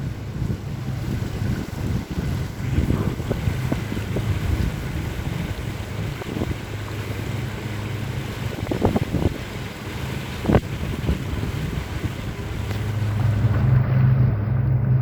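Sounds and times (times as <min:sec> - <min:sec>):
boat motor humming: 0:00.0 - 0:15.0
wind buffeting microphone: 0:00.0 - 0:15.0.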